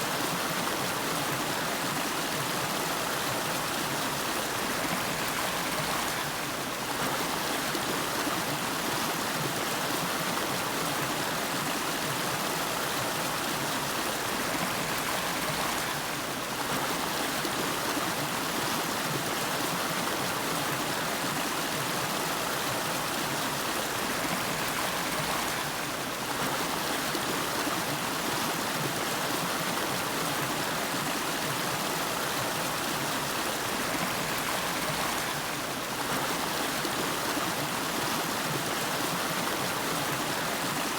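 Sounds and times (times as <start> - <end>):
river water flowing over rocks: 0.0 - 40.9.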